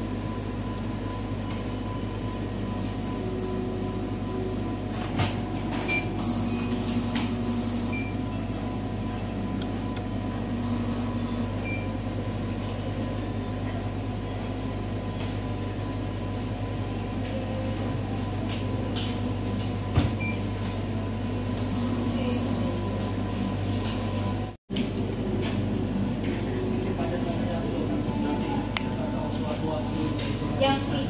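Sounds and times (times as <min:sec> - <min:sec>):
machine hum: 0:00.0 - 0:19.9, 0:20.7 - 0:31.0.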